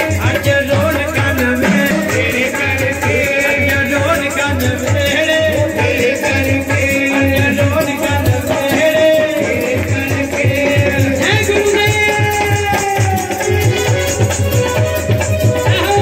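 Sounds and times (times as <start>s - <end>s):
jingling shaken percussion: 0.0s - 16.0s
person singing: 0.0s - 16.0s
steady drum beat: 0.0s - 16.0s.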